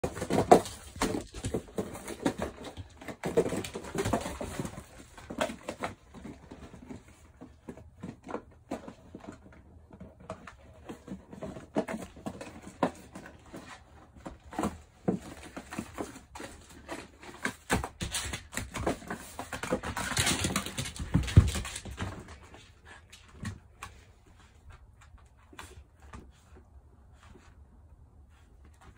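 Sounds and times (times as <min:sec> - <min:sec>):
puppy claws scrabbling on floor: 0:00.0 - 0:27.6.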